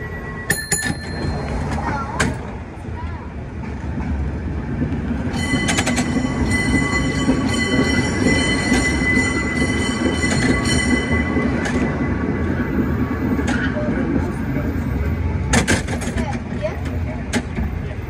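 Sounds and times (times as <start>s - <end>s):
cable car rumbling on rails: 0.0s - 18.0s.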